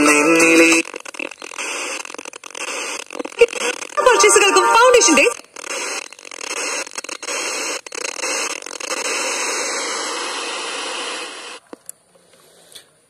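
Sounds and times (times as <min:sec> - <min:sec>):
radio static hiss: 0:00.0 - 0:11.6.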